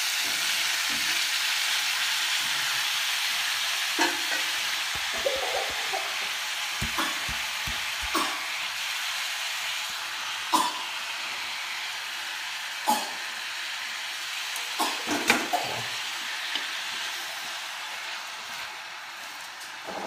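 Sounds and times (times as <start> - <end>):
cabbage sizzling in a wok: 0.0 - 20.0.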